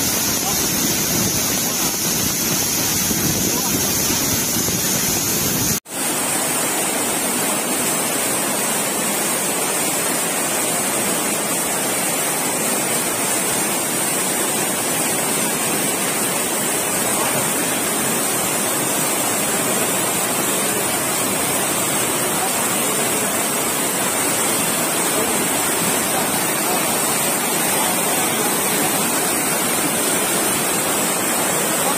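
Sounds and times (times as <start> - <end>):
waterfall and stream rushing: 0.0 - 31.9.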